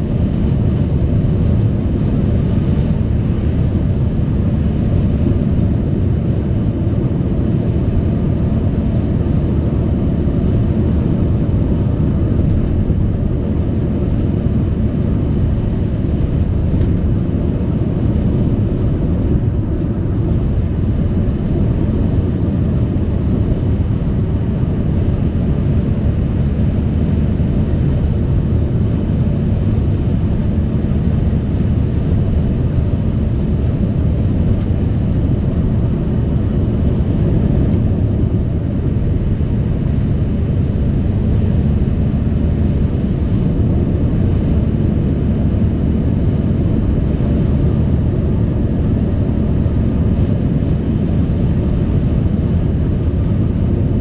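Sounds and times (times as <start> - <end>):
car driving at speed: 0.0 - 54.0.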